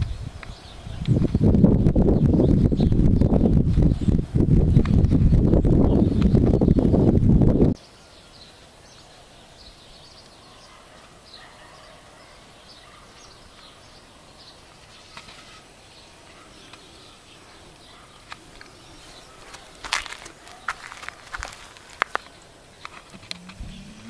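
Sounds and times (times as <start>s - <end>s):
distant birds chirping: 0.0s - 24.0s.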